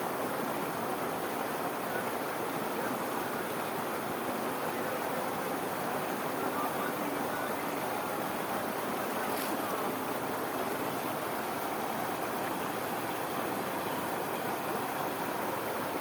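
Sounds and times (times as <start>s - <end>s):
water rushing over waterfall: 0.0s - 16.0s.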